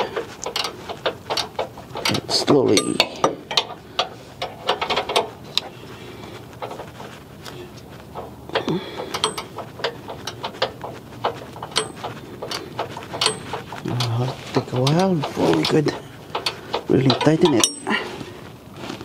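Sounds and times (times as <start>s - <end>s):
ratcheting wrench clicking: 0.0s - 5.7s, 8.1s - 17.9s.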